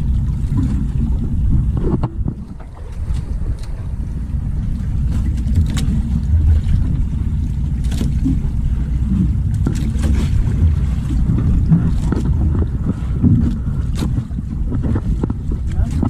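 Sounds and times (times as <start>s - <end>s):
water splashes against hull: 0.0s - 16.0s
wind rumble on microphone: 0.0s - 16.0s.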